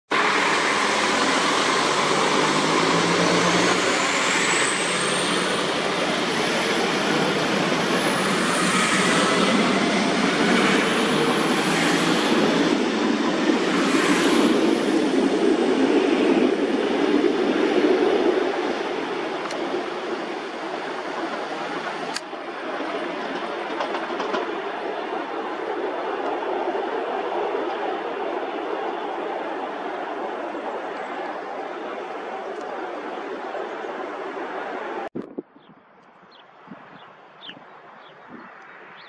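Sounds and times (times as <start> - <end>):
train engine and running noise: 0.1 - 35.2.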